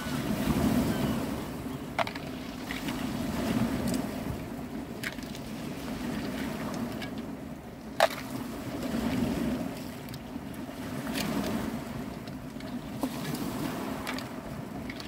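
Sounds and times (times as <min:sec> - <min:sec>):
waves on pebble shore: 0:00.0 - 0:15.0.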